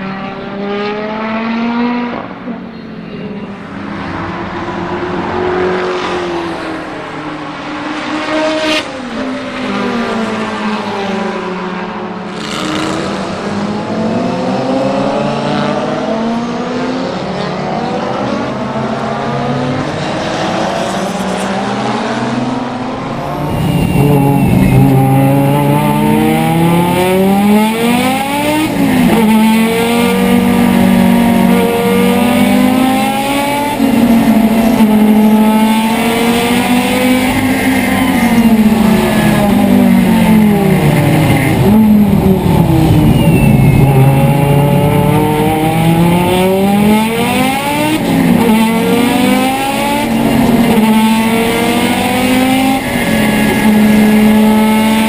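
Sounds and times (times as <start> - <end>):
race car engines accelerating: 0.0 - 55.0.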